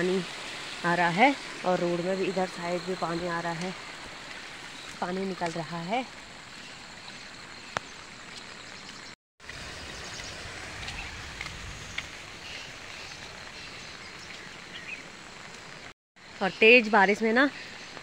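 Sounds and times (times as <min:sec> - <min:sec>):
water trickling over asphalt: 0:00.0 - 0:15.9
light rain hiss: 0:00.0 - 0:18.0.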